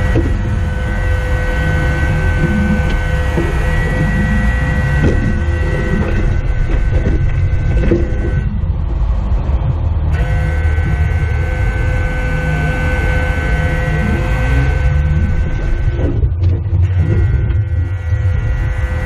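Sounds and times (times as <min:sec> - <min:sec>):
high whine: 0:00.0 - 0:19.0
vehicle engine drone: 0:00.0 - 0:19.0.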